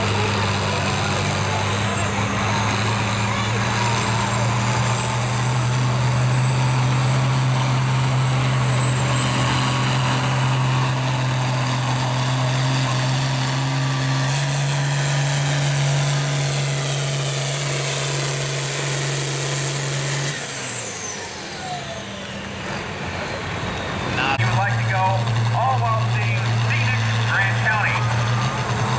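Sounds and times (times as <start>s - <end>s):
diesel tractor engine whining: 0.0s - 28.9s.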